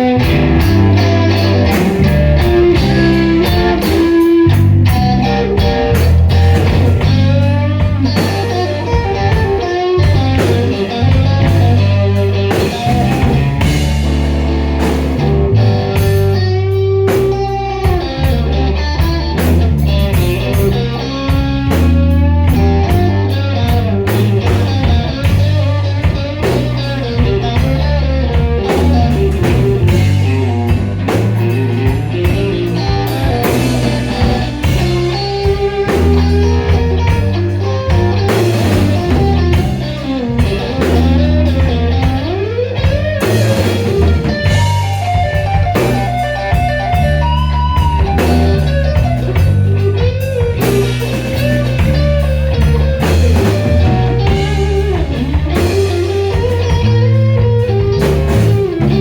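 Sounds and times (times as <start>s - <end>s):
electric guitar lead with bends: 0.0s - 59.0s
slow blues band playing: 0.0s - 59.0s.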